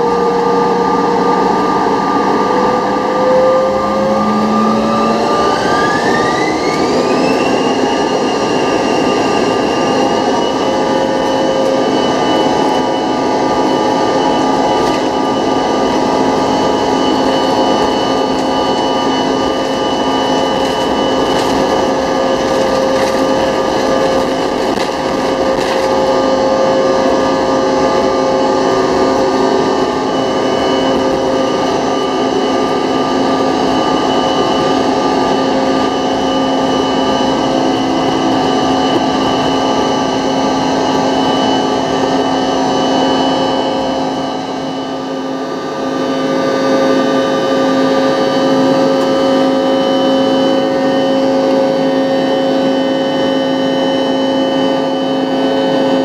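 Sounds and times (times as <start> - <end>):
jet engine roar with fan whine: 0.0 - 56.0.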